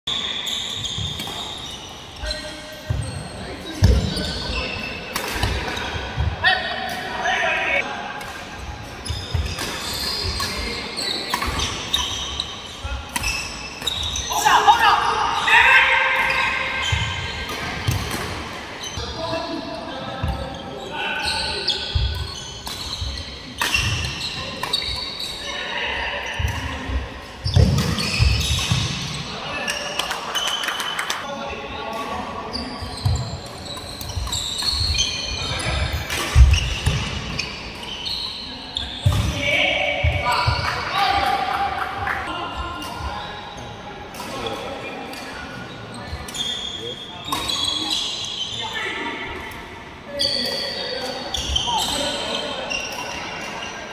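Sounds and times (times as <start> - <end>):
shoe squeaks: 0.1 - 6.6, 8.9 - 14.6, 15.4 - 40.8, 42.4 - 49.2, 50.1 - 53.9.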